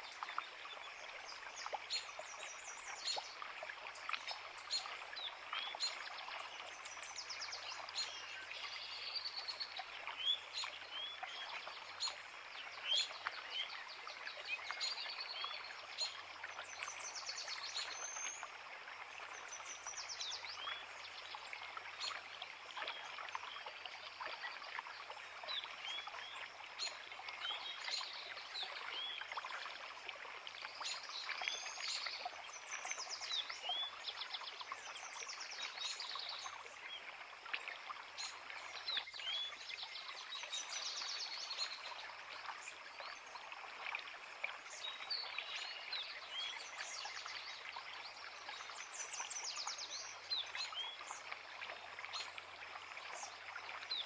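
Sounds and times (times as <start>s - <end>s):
creek running: 0.0s - 54.0s.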